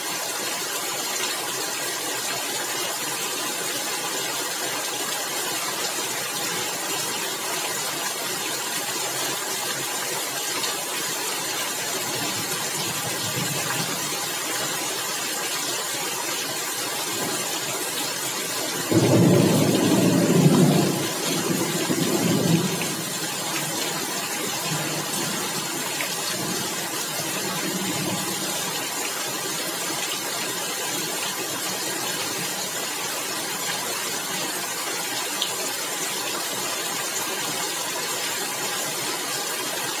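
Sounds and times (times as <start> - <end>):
heavy rain on roof tiles: 0.0 - 40.0.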